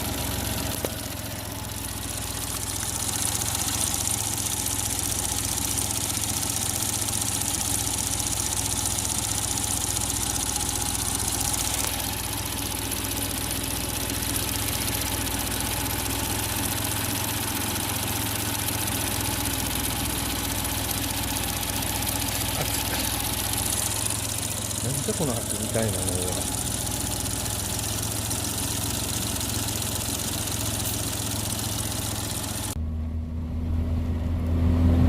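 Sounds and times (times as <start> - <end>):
car engine idling: 0.0 - 34.5.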